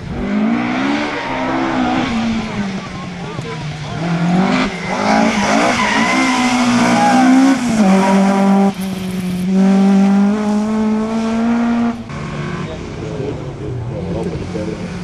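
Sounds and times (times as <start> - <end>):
rally car engine revving hard: 0.0 - 15.0.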